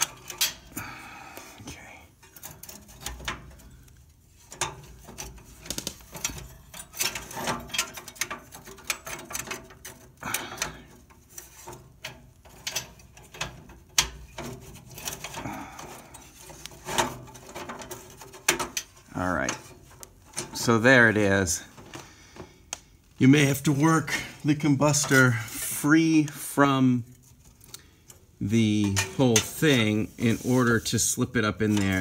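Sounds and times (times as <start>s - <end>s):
light metal clicks and scrapes: 0.0s - 0.8s, 1.4s - 22.0s, 23.4s - 32.0s.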